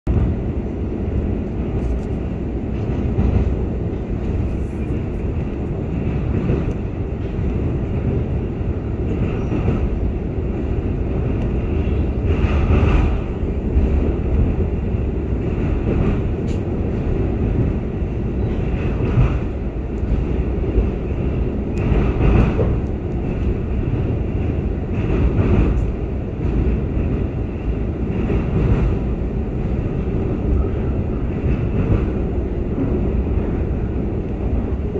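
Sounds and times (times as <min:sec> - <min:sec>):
train wheels rumbling on rail: 0:00.1 - 0:34.9.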